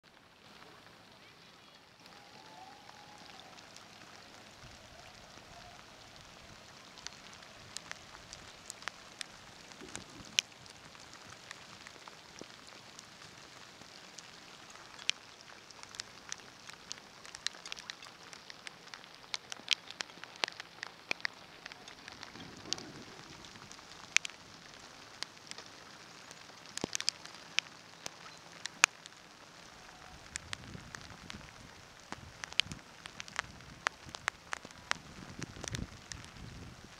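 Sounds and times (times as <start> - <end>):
rain hissing on water: 0.0 - 36.9
raindrop hits: 2.0 - 36.9.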